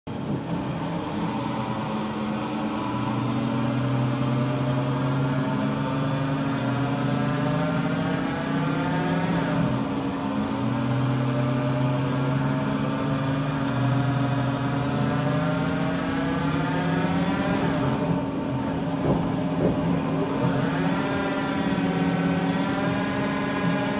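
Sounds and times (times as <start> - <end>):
lathe machine hum: 0.1 - 23.9
spindle whine: 0.2 - 23.9.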